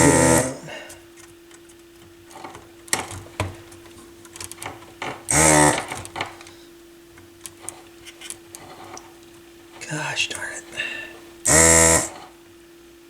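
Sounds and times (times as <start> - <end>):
steady hum: 0.0 - 13.0
vacuum pump buzzing: 0.0 - 13.0.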